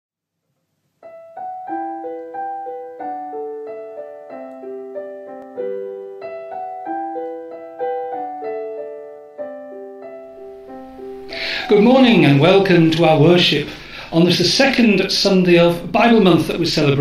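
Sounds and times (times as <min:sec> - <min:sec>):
piano music: 0:00.9 - 0:17.0.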